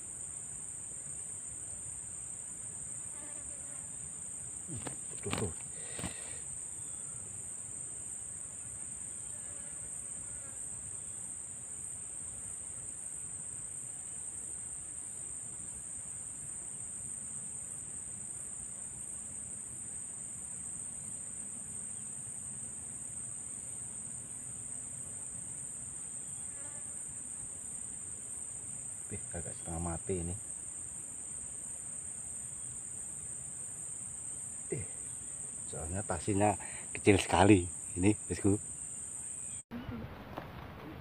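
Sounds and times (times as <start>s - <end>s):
insect chorus: 0.0s - 41.0s.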